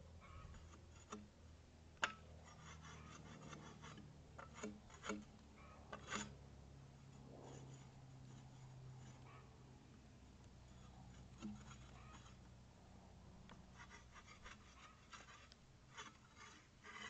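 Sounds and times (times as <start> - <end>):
faint bark scraping off log: 0.2 - 1.3, 2.0 - 9.5, 10.5 - 12.5, 13.4 - 17.0.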